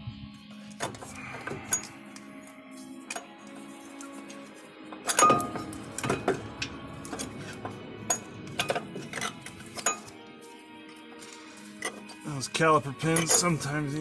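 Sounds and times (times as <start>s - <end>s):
background music: 0.0s - 14.0s
metal parts clinking: 0.6s - 14.0s.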